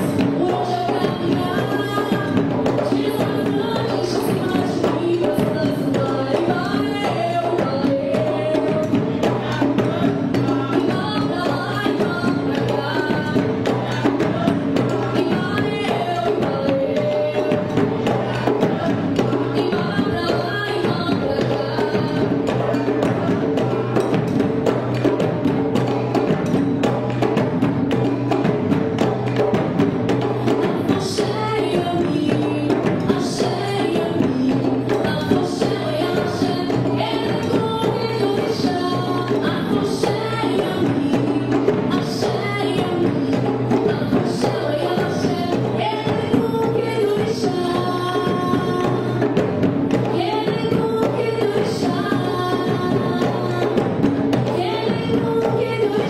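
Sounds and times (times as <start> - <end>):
music with fast percussion: 0.0 - 56.0.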